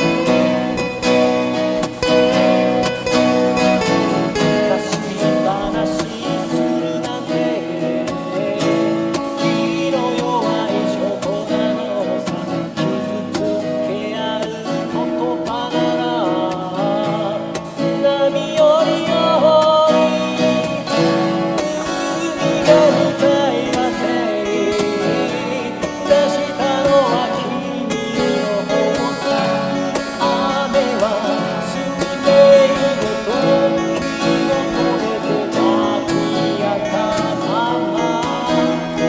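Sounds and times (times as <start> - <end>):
acoustic guitar strumming chords: 0.0 - 39.0
sliding guitar melody: 0.0 - 39.0.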